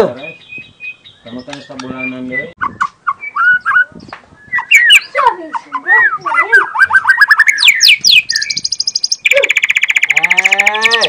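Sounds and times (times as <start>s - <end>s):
songbird singing whistled notes: 0.1s - 11.0s.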